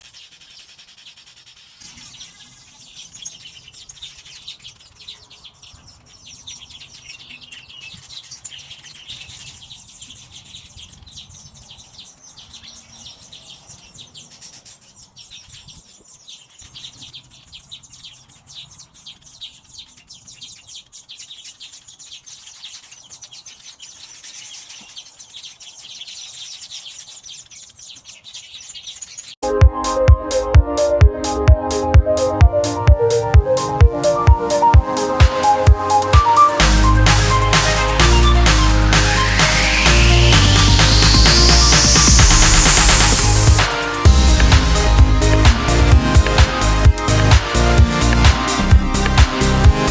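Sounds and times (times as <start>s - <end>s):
birds chattering in a colony: 0.0s - 29.4s, 32.6s - 49.9s.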